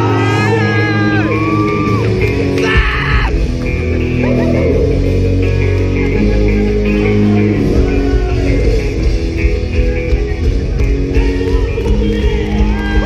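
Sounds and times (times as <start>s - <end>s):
pop-punk band playing live: 0.0s - 13.0s.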